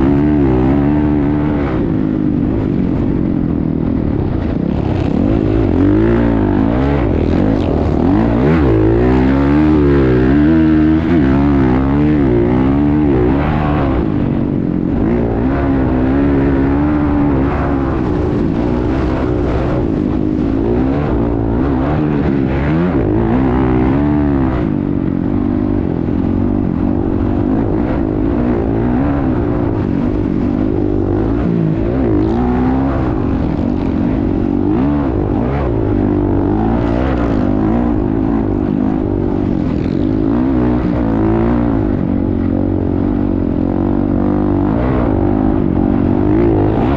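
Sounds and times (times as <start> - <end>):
motocross bike engine revving: 0.0 - 3.2, 3.8 - 46.9.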